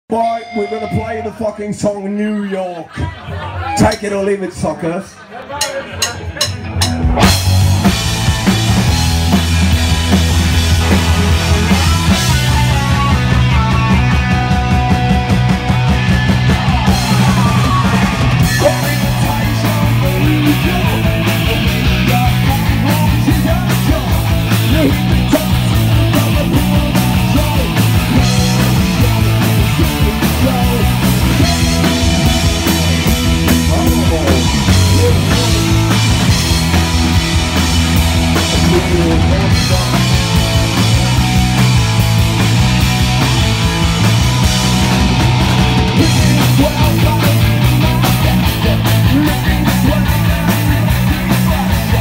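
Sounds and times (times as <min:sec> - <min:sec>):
distorted electric guitars: 0:00.0 - 0:02.0, 0:05.9 - 0:52.0
bass guitar: 0:00.0 - 0:02.1, 0:05.6 - 0:52.0
drum kit: 0:05.6 - 0:52.0.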